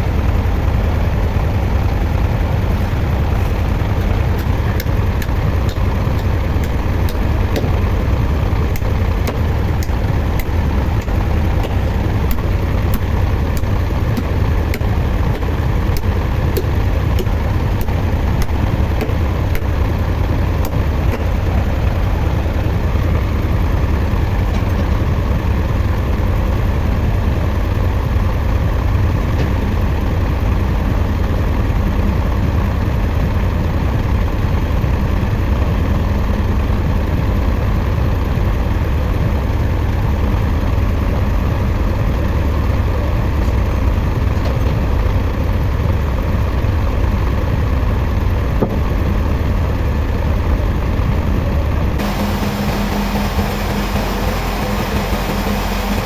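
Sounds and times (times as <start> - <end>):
heavy engine rumbling: 0.0 - 56.0.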